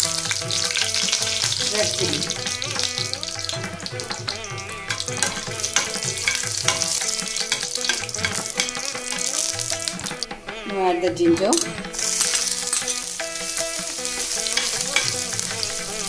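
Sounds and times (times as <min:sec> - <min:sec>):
oil sizzling: 0:00.0 - 0:16.0
steel spoon tapping a pan: 0:00.0 - 0:16.0.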